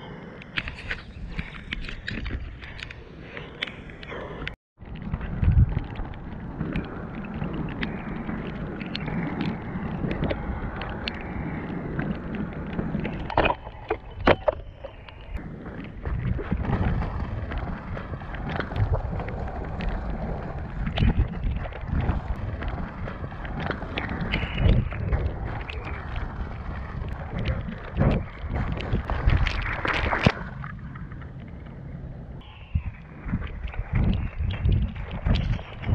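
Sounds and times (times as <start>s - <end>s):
wind on microphone: 0.0s - 35.9s
skates rolling over dirt trail: 4.8s - 35.9s.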